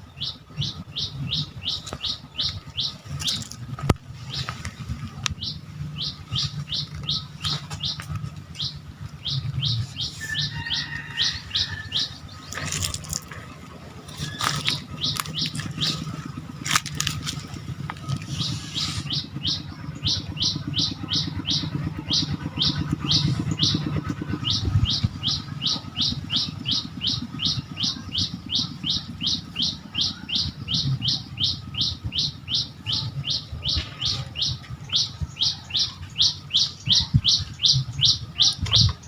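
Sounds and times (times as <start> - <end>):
low fluttering rumble: 0.0 - 39.0
small bird calling high notes: 5.4 - 13.1, 14.0 - 38.6.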